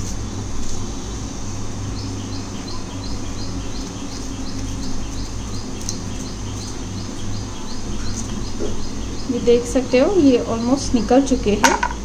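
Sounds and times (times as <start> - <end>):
steady low hum: 0.0 - 12.0
small bird chirping: 1.8 - 11.6.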